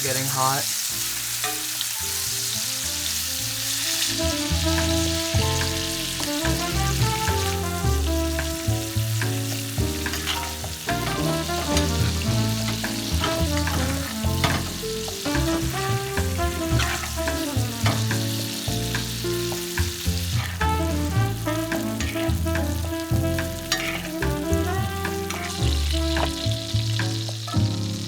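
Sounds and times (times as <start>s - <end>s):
steak sizzling in a pan: 0.0s - 28.0s
background music with bass: 1.0s - 28.0s.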